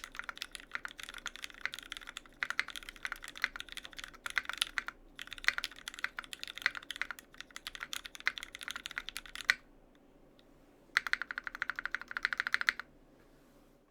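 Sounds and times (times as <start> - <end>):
mechanical keyboard typing: 0.0 - 9.6, 11.0 - 12.9.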